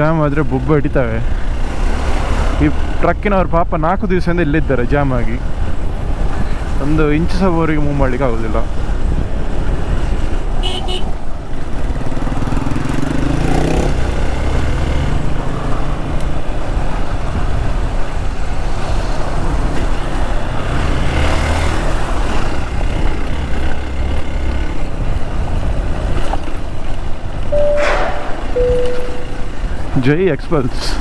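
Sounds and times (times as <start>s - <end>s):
truck traffic noise: 0.0s - 3.2s, 4.4s - 31.0s
road and wind noise: 0.0s - 31.0s.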